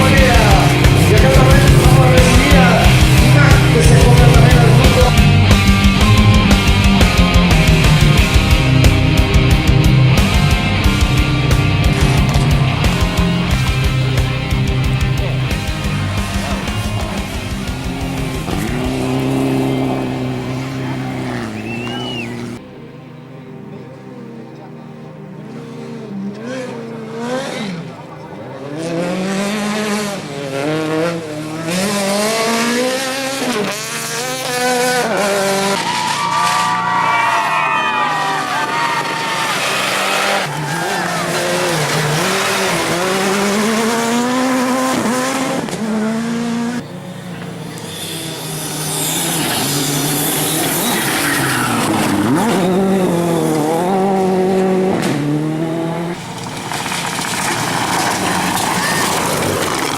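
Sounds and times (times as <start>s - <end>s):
car engine accelerating hard: 0.0s - 22.6s, 25.8s - 59.9s
tyre and road noise: 0.0s - 22.7s, 26.1s - 59.9s.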